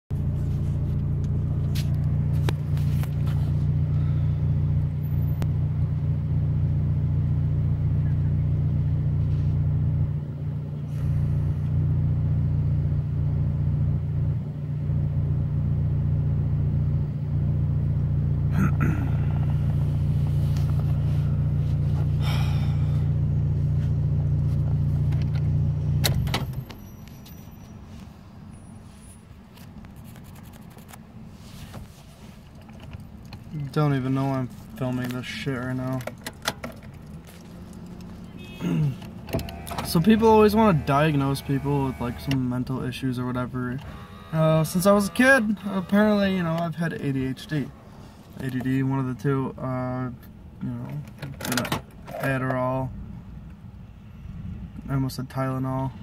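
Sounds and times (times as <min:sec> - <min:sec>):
car engine idling: 0:00.1 - 0:56.0.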